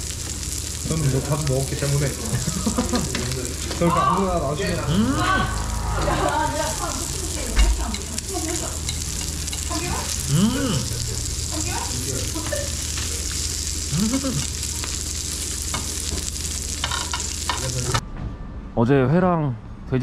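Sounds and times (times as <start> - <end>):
meat sizzling on a grill plate: 0.0 - 18.0.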